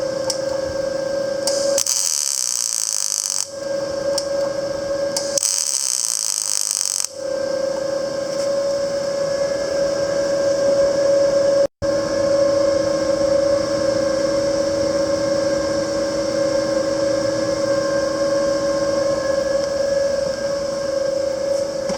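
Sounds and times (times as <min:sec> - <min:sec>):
welder electrical hum: 0:00.0 - 0:21.9.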